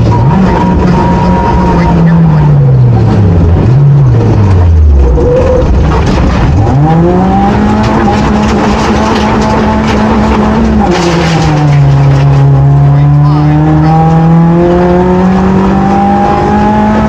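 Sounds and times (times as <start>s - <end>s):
car engine revving: 0.0s - 17.0s
road and wind noise: 0.0s - 17.0s.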